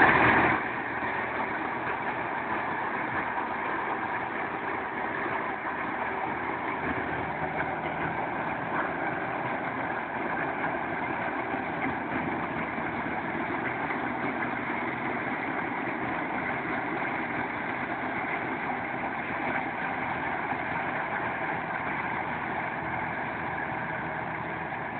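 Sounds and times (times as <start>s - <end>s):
combine harvester engine running: 0.0s - 24.9s.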